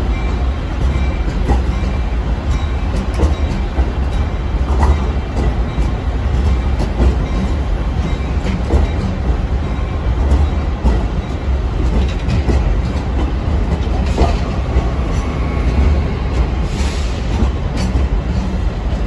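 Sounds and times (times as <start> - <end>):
train wheels rumbling: 0.0 - 19.0
wheels clacking over rail joints: 0.0 - 19.0.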